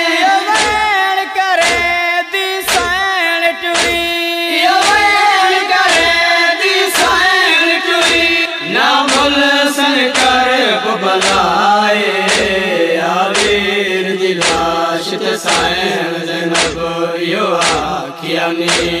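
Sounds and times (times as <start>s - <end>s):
steady heavy beat: 0.0s - 19.0s
voices chanting a lament: 0.0s - 19.0s.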